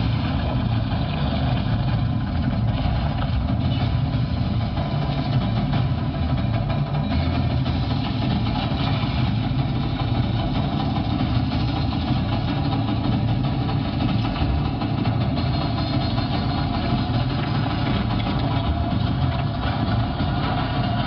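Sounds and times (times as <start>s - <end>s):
tank engine rumble over loudspeakers: 0.0s - 21.0s.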